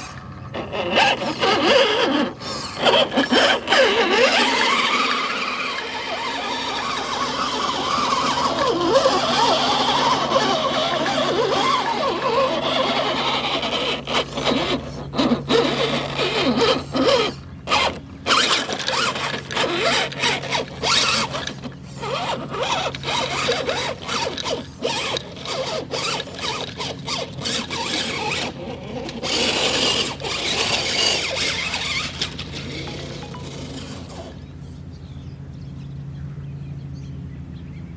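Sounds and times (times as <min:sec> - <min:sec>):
electric motor and gears whining: 0:00.0 - 0:35.4.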